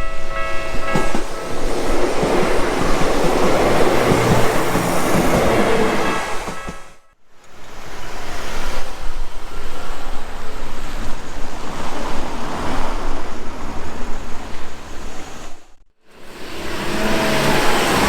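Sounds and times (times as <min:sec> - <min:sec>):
waves rushing: 0:00.4 - 0:06.9, 0:07.5 - 0:15.6, 0:16.2 - 0:18.0.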